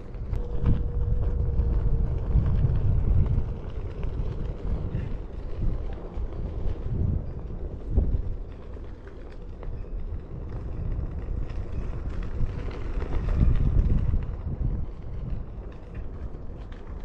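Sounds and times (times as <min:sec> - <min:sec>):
faint steady whine: 0:00.0 - 0:17.0
wind buffeting microphone: 0:00.0 - 0:17.0.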